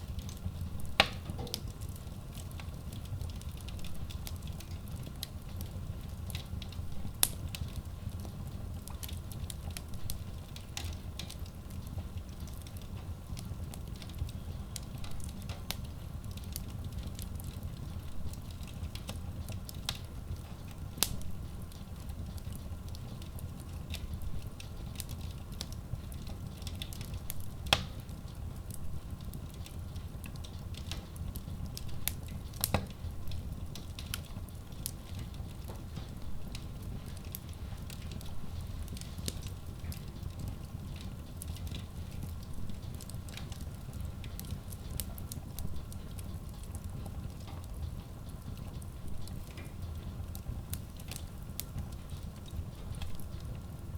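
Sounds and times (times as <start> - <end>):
low rumble of flame: 0.0 - 53.9
wood fire crackling and popping: 0.0 - 53.9.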